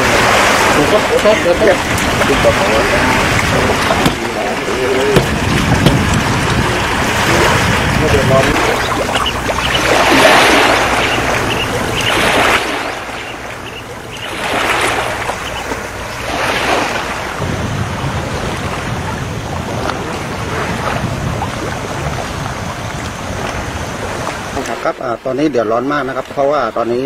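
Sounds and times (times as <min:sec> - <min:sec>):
wind buffeting microphone: 0:00.0 - 0:24.6
sea waves washing against rocks: 0:00.0 - 0:27.0.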